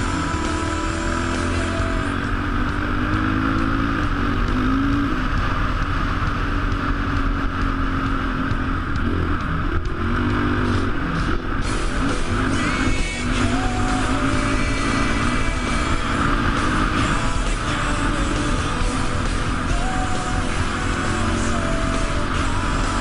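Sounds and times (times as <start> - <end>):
atv engine running hard: 0.0 - 23.0.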